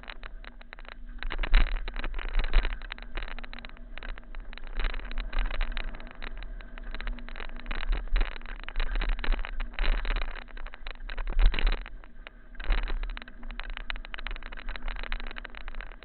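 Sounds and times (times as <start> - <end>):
tyres rolling over dirt and rocks: 0.0 - 16.0
wind rumble on microphone: 0.0 - 16.0.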